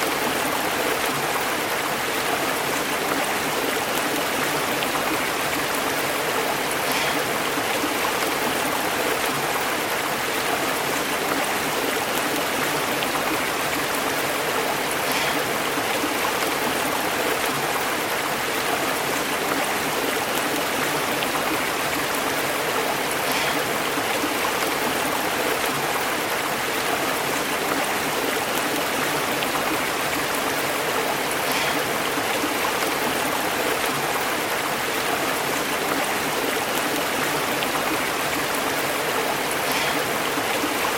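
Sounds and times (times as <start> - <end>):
stream bubbling over rocks: 0.0 - 40.9.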